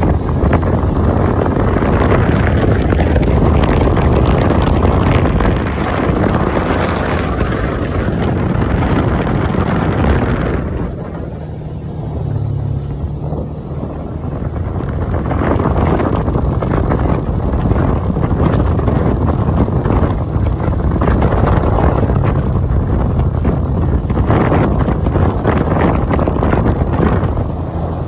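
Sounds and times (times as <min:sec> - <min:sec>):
tyre noise on dirt road: 0:00.0 - 0:28.0
vehicle engine hum: 0:00.0 - 0:28.0
wind buffeting microphone: 0:00.0 - 0:28.0.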